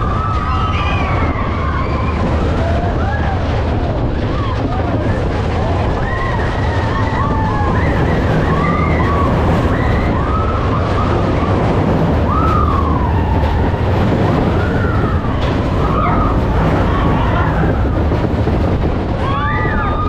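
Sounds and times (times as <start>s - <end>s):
roller coaster cars rumbling: 0.0s - 20.0s
rush of air: 0.0s - 20.0s.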